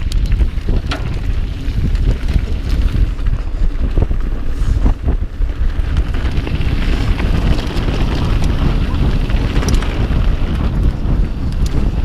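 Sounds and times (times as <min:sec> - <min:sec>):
bike rattling clicks: 0:00.0 - 0:12.0
wind buffeting microphone: 0:00.0 - 0:12.0.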